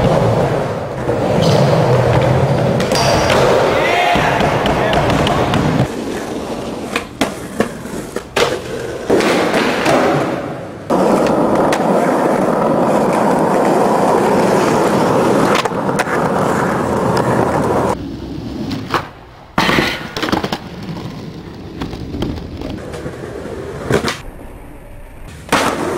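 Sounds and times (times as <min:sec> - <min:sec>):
skateboard clacks: 0:00.0 - 0:18.0, 0:18.6 - 0:24.3, 0:25.3 - 0:25.9
skateboard wheels rolling: 0:00.0 - 0:25.9.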